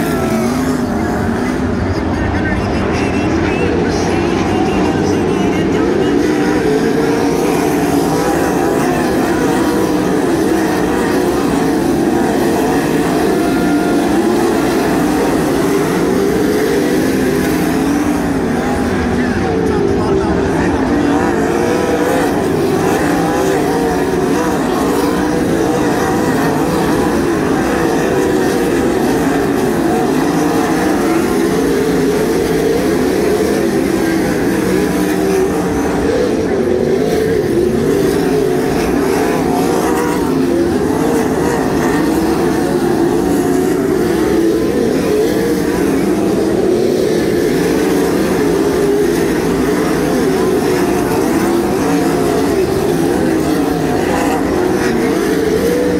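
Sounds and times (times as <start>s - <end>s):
racing car engines droning: 0.0s - 55.9s.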